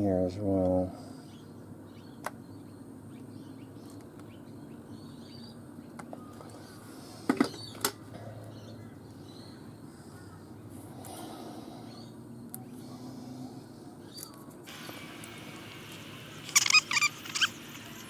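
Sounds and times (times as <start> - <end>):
low steady background hum: 0.0 - 18.0.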